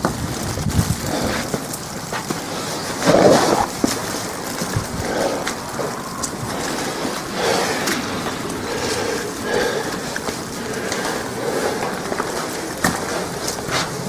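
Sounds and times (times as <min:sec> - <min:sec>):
wind and wet snow on umbrella: 0:00.0 - 0:14.0.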